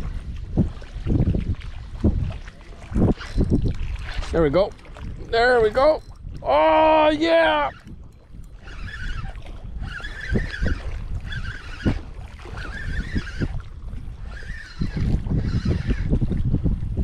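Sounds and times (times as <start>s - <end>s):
wind on microphone: 0.0s - 17.0s
fishing reel whirring: 3.0s - 17.0s.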